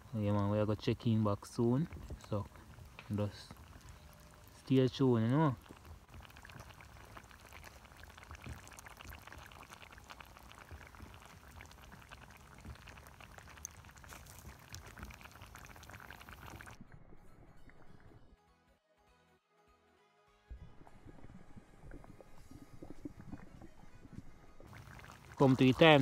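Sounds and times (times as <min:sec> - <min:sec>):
small pops and crackles: 0:00.0 - 0:16.8, 0:20.5 - 0:26.0
stew bubbling in a pot: 0:00.0 - 0:18.2, 0:20.5 - 0:26.0.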